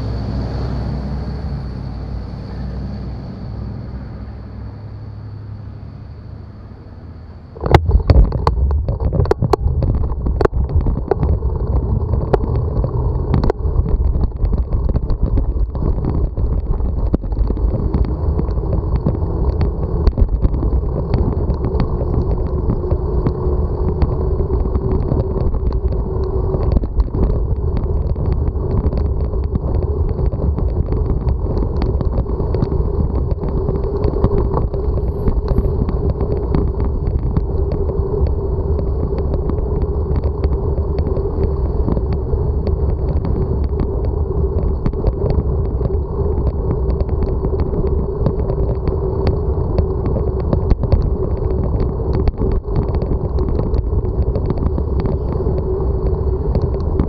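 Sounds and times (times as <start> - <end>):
bicycle road rumble: 0.0 - 57.0
sharp clicks and knocks: 7.6 - 57.0
wind on microphone: 7.6 - 57.0.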